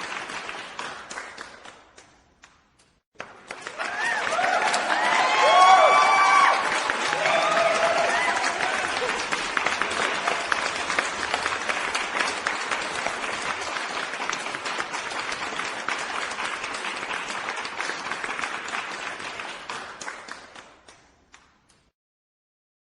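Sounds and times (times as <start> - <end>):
crowd applauding: 0.0 - 1.9, 3.2 - 20.9.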